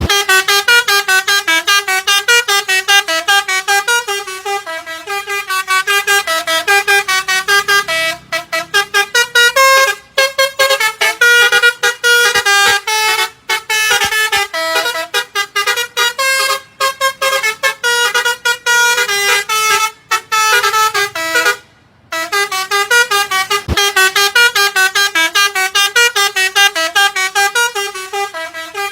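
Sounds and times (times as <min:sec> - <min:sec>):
musical vehicle horn playing tune: 0:00.0 - 0:28.9.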